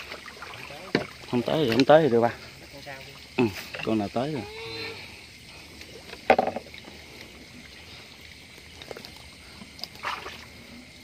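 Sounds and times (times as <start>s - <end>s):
night insects chorus: 0.0s - 11.0s
splash and rustle: 0.0s - 11.0s
wading through shallow water: 0.0s - 11.0s.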